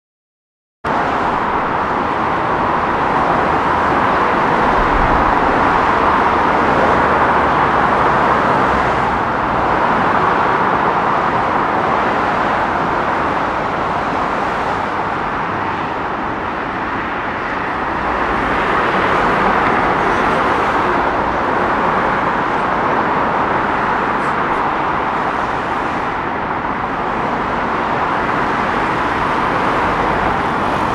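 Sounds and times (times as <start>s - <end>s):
fast traffic rushing past: 0.9s - 30.9s.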